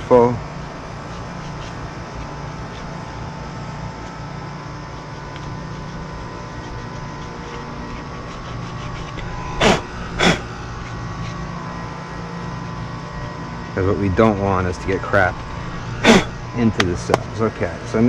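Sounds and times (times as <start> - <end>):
mechanical hum with faint whine: 0.0 - 18.0.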